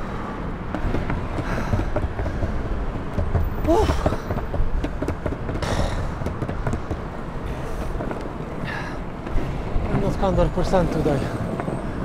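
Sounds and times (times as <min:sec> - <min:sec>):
longboard wheels rolling on concrete: 0:00.0 - 0:12.0
wind buffeting microphone: 0:00.0 - 0:12.0
wheels clicking over joints: 0:00.4 - 0:12.0.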